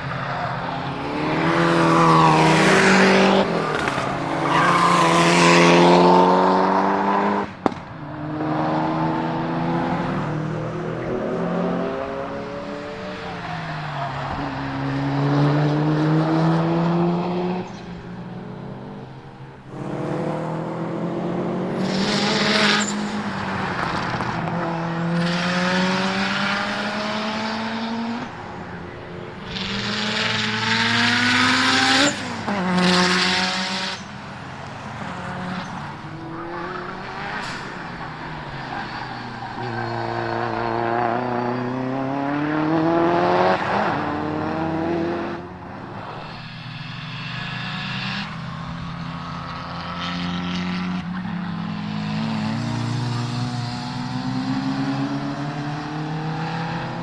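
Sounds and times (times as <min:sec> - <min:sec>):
race cars passing: 0:00.0 - 0:57.0.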